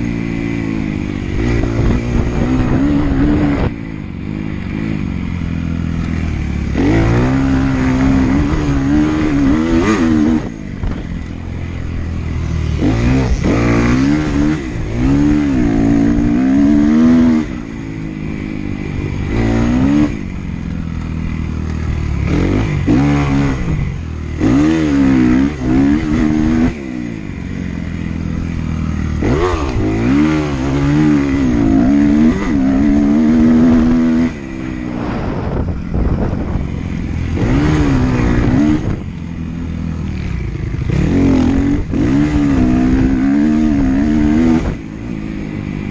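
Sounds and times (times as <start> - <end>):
dirt bike engine revving: 0.0 - 45.9
wind and ground noise: 0.0 - 45.9.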